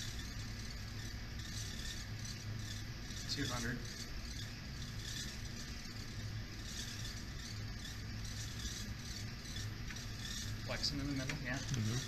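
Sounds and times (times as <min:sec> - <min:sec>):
testing machine humming: 0:00.0 - 0:12.0.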